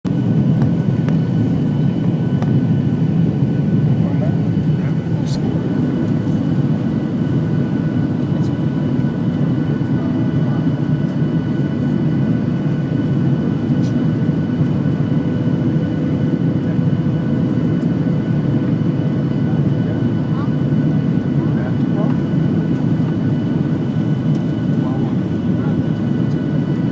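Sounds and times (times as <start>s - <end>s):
jet engines roaring in cabin: 0.1s - 26.9s.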